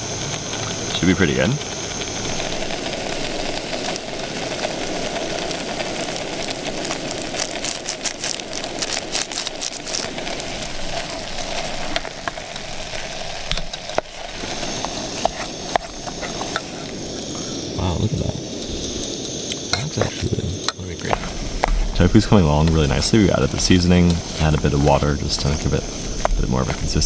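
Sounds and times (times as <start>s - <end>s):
food crackling in a pot: 0.0s - 27.0s
gas stove burner hissing: 0.0s - 27.0s.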